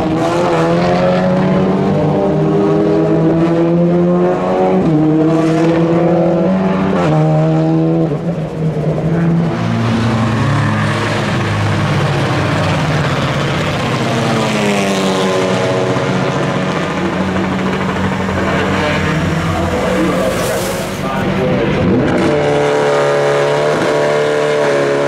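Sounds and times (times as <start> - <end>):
race car engine shifting gears: 0.0 - 25.0
several race car engines: 0.0 - 25.0.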